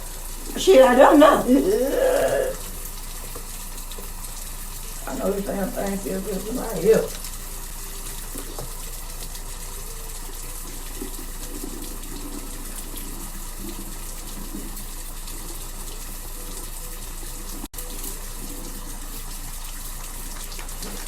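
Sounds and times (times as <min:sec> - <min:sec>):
water running from sink tap: 0:00.0 - 0:21.0.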